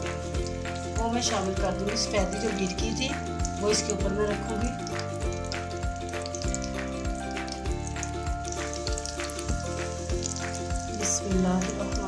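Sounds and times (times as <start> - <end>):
background music with steady beat: 0.0 - 12.0
omelette sizzling in a frying pan: 0.0 - 12.0.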